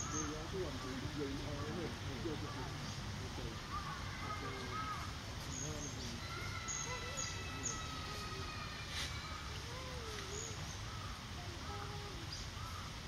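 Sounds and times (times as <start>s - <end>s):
faint distant voices: 0.0s - 13.0s.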